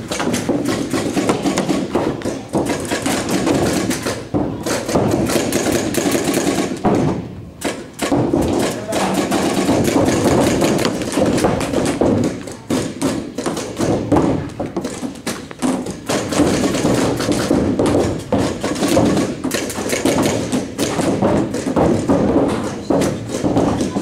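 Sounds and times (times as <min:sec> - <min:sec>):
paintball markers firing: 0:00.0 - 0:24.0.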